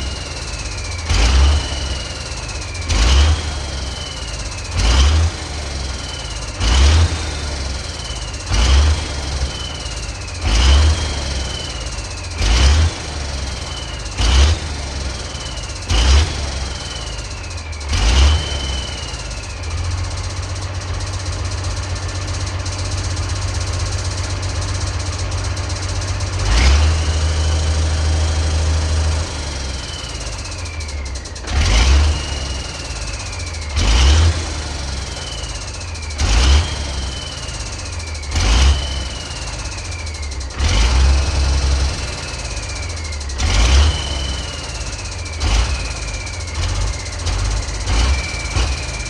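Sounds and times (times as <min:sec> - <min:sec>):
truck engine throttle blips: 0:00.0 - 0:49.0.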